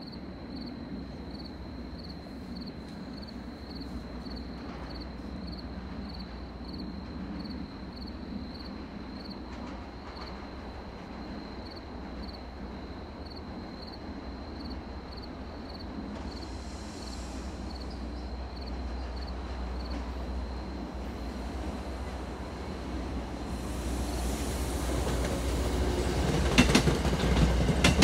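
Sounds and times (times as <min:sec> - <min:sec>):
crickets chirping: 0:00.0 - 0:28.0
distant train rumble: 0:00.0 - 0:28.0.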